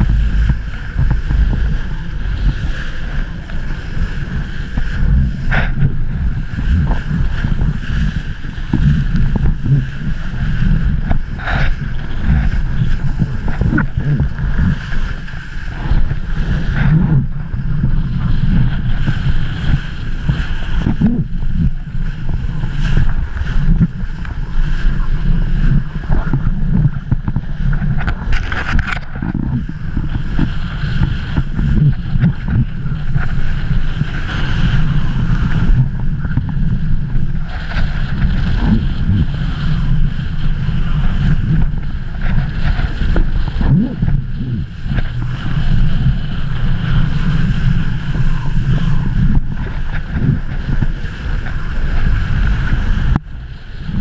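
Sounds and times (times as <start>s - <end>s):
kiteboard skimming water: 0.0s - 54.0s
wind buffeting microphone: 0.0s - 54.0s.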